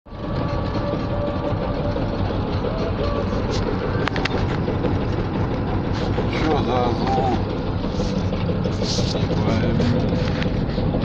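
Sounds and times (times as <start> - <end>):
petrol engine droning: 0.1 - 11.0.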